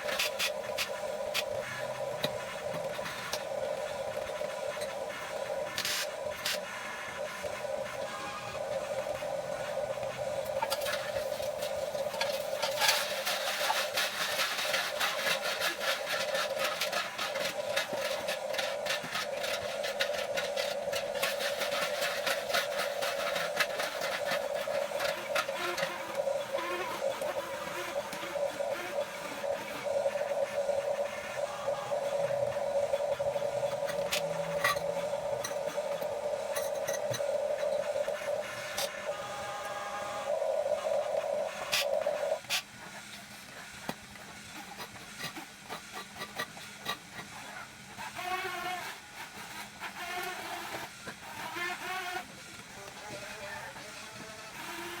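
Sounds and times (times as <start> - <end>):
toy excavator motors whining: 0.0 - 42.6, 48.0 - 55.0.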